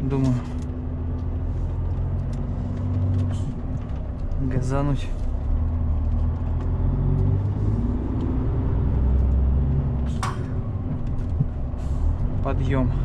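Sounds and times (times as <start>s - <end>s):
diesel truck engine pulling uphill: 0.0s - 13.0s.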